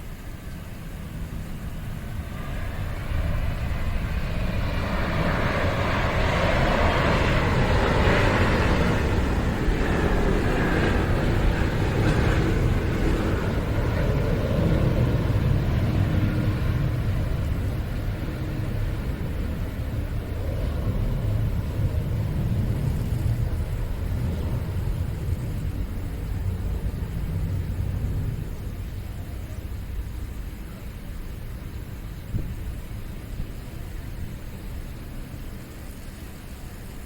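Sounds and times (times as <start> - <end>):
jet airliner engines rumbling: 0.0 - 37.0.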